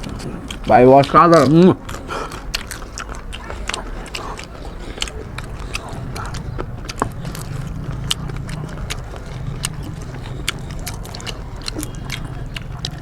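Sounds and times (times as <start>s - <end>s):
chewing mouth clicks and smacks: 0.0s - 13.0s
steady low hum: 0.0s - 13.0s.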